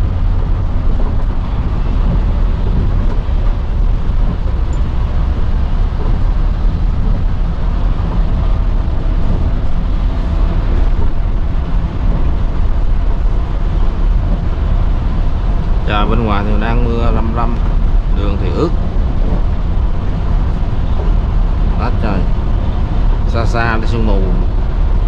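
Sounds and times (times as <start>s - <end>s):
engine and tyres rumbling: 0.0s - 25.0s.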